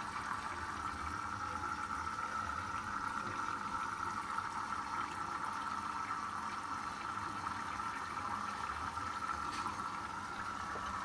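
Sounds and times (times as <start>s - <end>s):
washing machine running: 0.0s - 11.0s.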